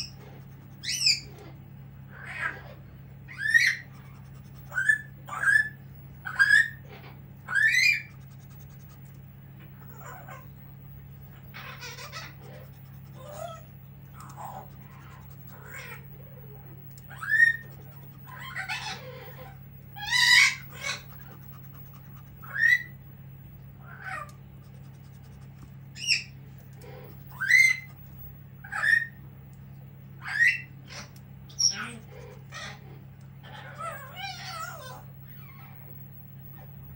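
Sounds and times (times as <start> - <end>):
parrot calling: 0.0 - 10.7, 11.3 - 23.0, 23.7 - 29.2, 30.2 - 35.9.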